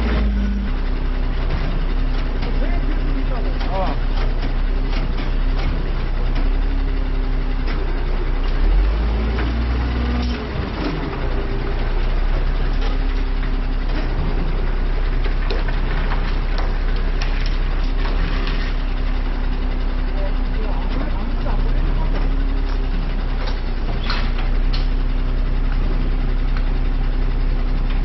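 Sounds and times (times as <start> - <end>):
truck diesel engine running: 0.0 - 28.0.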